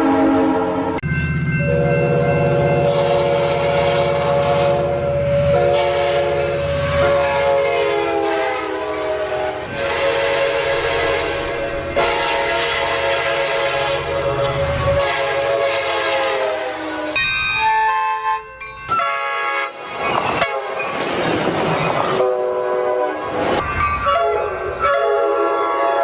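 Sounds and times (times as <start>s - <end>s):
train air horn: 0.0s - 1.0s, 1.7s - 20.8s, 22.1s - 23.4s, 24.1s - 26.0s
low rumble of train: 0.0s - 26.0s.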